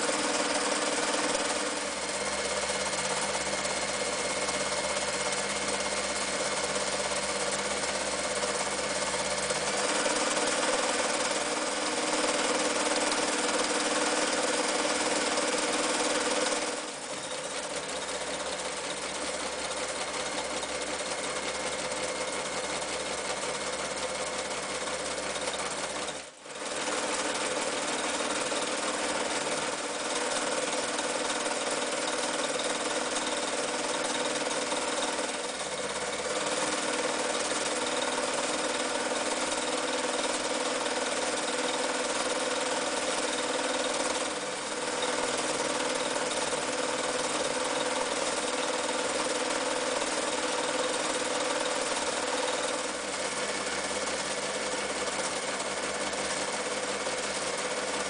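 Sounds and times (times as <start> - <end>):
electric sewing machine running: 0.0 - 58.0.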